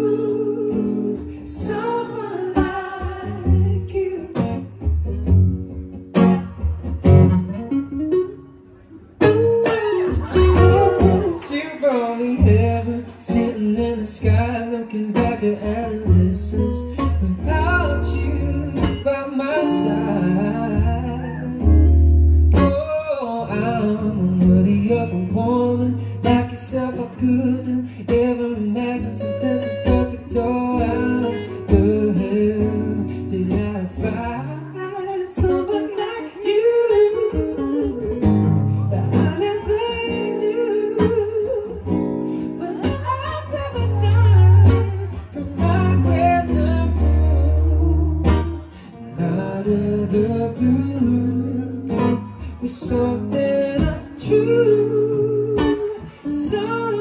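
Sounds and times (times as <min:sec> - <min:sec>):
man singing: 0:00.0 - 0:05.0, 0:10.0 - 0:57.0
strummed acoustic guitar: 0:00.0 - 0:57.0.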